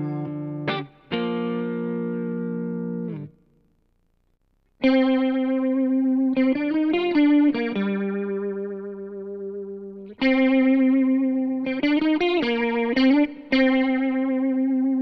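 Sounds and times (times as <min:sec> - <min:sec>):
electric guitar chords: 0:00.0 - 0:03.6, 0:04.8 - 0:15.0.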